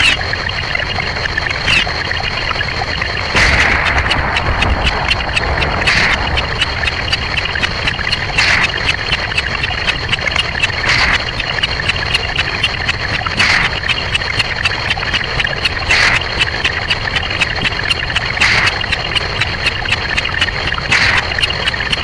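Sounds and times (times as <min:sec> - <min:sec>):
rapid stream of clicks and ticks: 0:00.0 - 0:22.0.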